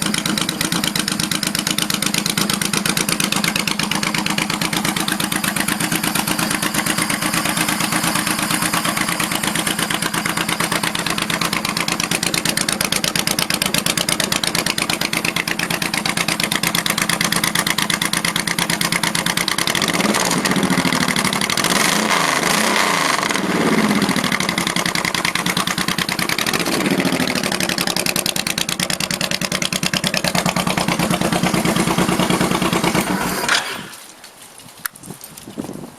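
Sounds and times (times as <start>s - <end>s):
motorcycle engine idling loud: 0.0s - 33.5s
motorcycle engine revving: 0.0s - 34.0s.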